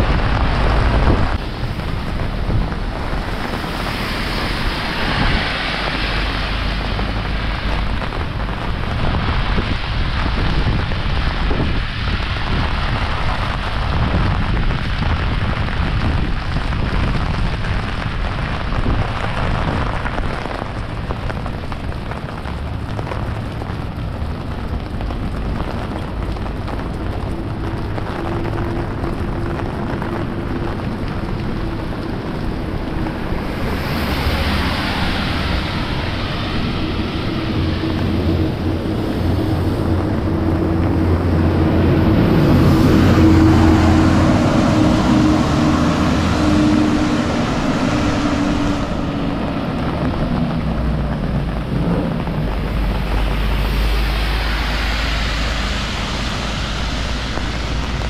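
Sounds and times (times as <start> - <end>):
heavy rain pouring: 0.0 - 58.0
wind rumble on microphone: 0.0 - 58.0.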